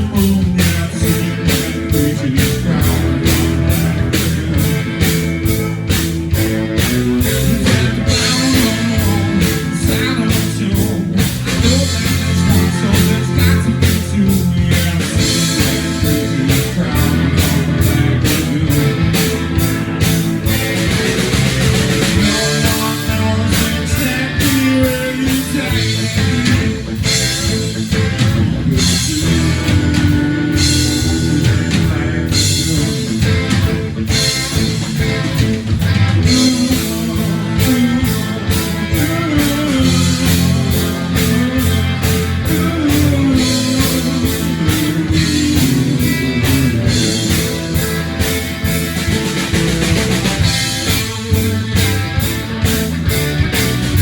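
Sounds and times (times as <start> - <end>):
drum kit: 0.0 - 54.0
guitar: 0.0 - 54.0
live rock band playing: 0.0 - 54.0.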